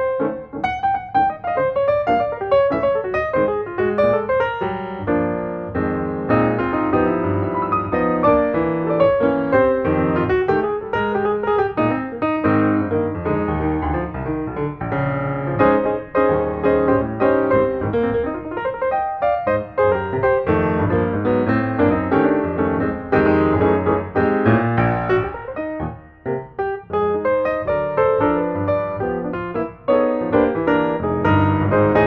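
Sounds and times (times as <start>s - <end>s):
piano music: 0.0s - 32.0s.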